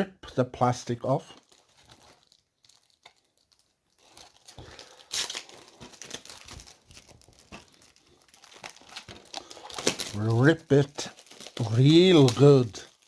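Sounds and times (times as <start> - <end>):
plastic wrap ripping and crinkling: 1.2 - 13.0.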